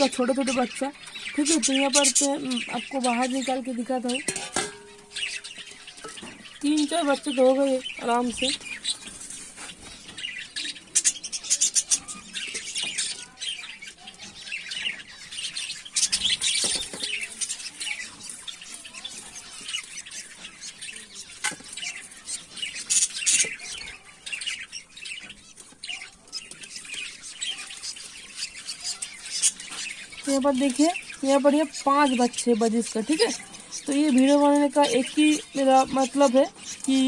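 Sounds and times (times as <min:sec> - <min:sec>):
budgerigars chirping and squawking: 0:00.0 - 0:37.0.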